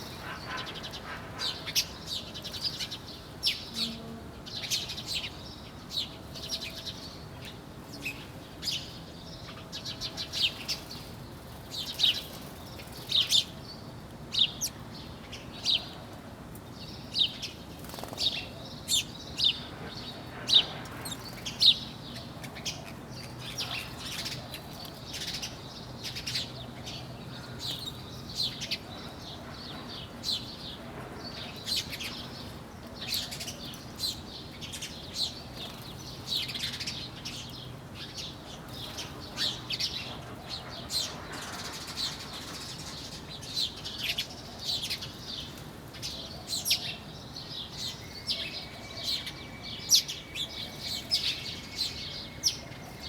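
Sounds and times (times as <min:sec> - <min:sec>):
small birds chirping: 0:00.0 - 0:16.0, 0:16.7 - 0:53.0.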